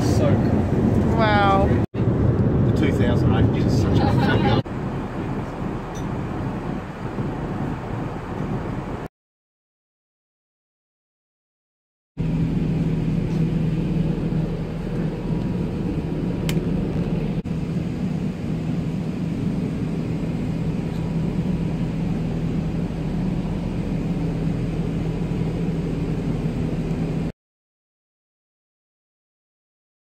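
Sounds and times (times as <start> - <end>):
airliner cabin rumble: 0.0 - 9.1, 12.2 - 27.3.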